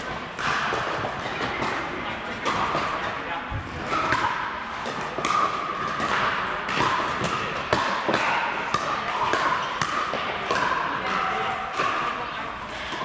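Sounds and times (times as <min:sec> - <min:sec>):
ball bouncing on court: 0:00.1 - 0:12.2.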